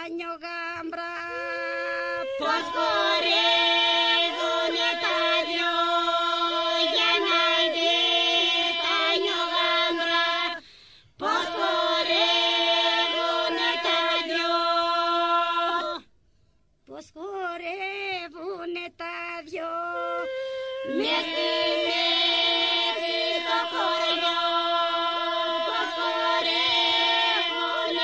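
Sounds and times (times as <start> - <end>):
group singing a drone: 1.3 - 16.1, 19.9 - 28.0.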